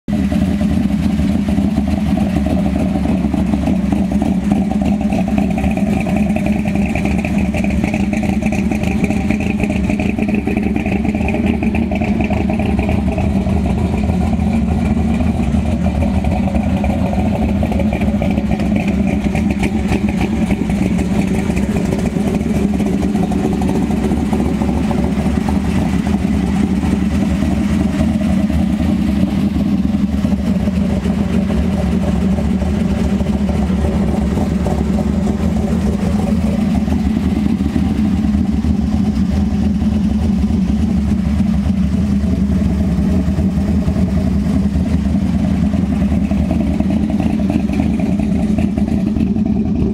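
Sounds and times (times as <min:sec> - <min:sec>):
car engine idling: 0:00.1 - 0:49.9.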